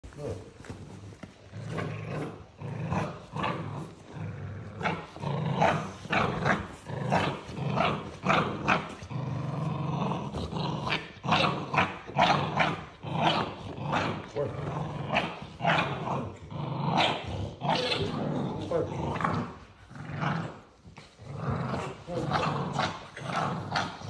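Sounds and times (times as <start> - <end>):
puppies play-growling: 0.0 - 24.0.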